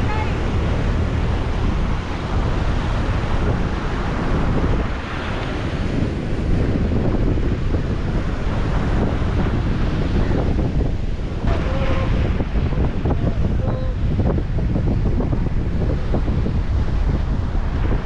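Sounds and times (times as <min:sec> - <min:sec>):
sea surf: 0:00.0 - 0:18.0
wind buffeting microphone: 0:00.0 - 0:18.0.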